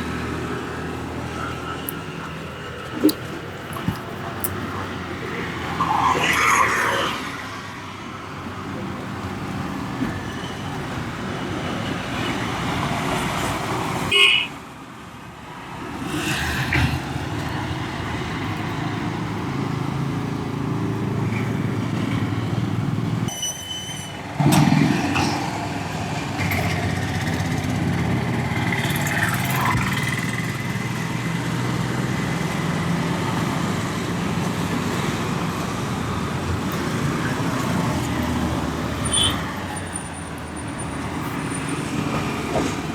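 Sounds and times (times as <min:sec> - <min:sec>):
vehicles passing: 0:00.0 - 0:23.3, 0:24.0 - 0:42.9.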